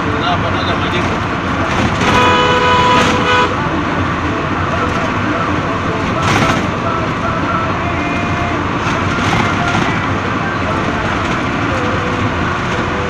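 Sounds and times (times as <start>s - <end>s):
vehicle cabin road noise: 0.0s - 13.0s.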